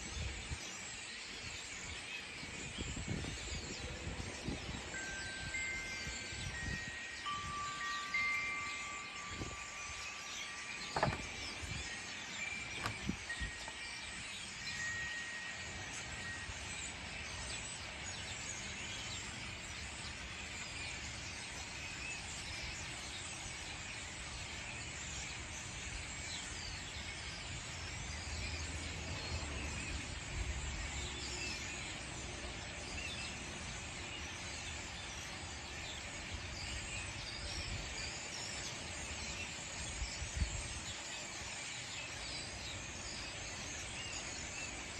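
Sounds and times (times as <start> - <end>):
starlings chattering: 0.0 - 44.9.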